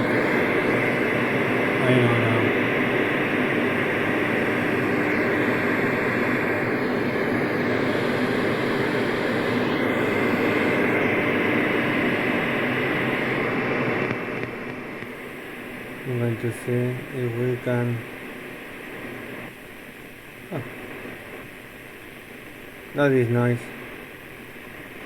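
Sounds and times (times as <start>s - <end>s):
radio static: 0.0s - 25.0s.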